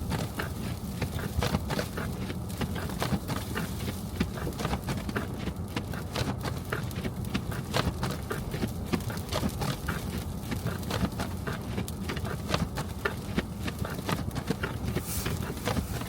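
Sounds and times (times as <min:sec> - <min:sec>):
low road rumble: 0:00.0 - 0:16.0.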